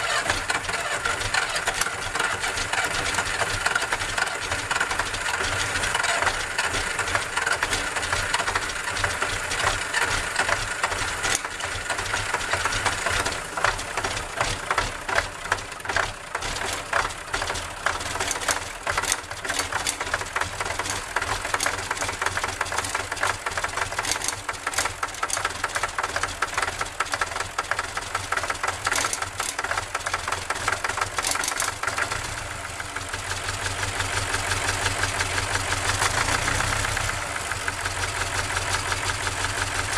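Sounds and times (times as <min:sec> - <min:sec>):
diesel engine knocking clatter: 0:00.0 - 0:39.9.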